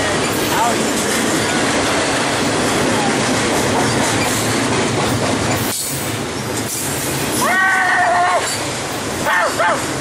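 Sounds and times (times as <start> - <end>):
freight train passing: 0.0 - 10.0
steel wheels on rails: 0.0 - 10.0.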